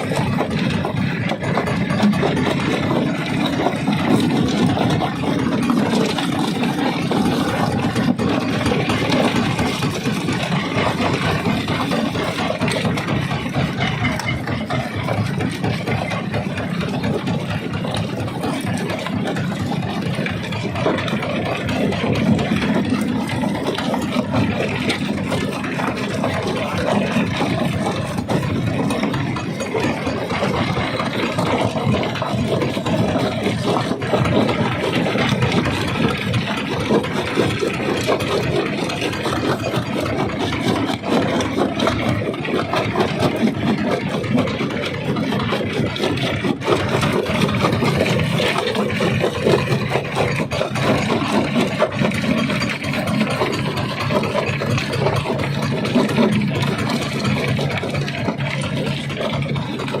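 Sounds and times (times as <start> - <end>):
rock crusher machinery drone: 0.0 - 60.0.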